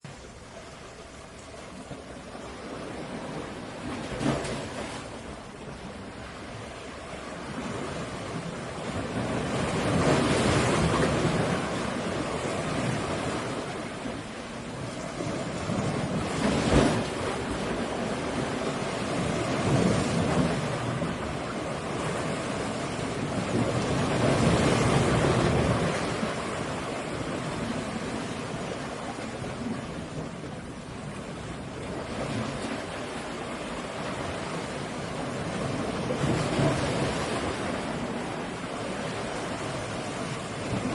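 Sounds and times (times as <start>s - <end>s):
sea waves breaking: 0.0s - 40.9s.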